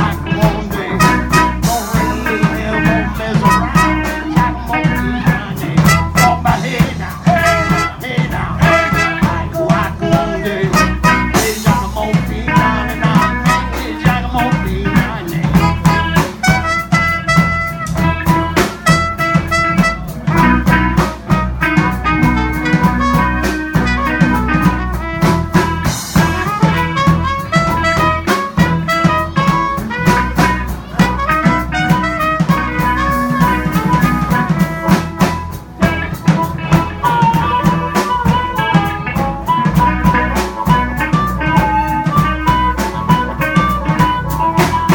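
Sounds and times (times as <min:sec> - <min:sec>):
live blues band playing: 0:00.0 - 0:44.9
amplified harmonica: 0:00.8 - 0:11.6, 0:15.6 - 0:44.9.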